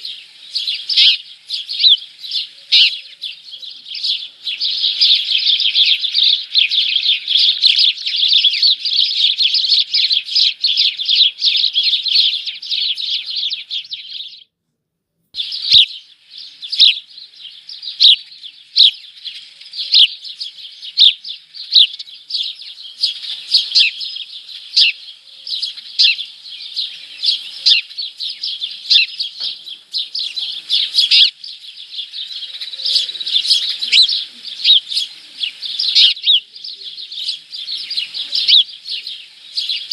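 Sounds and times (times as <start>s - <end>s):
small birds chirping: 0.0s - 14.6s, 15.4s - 39.9s.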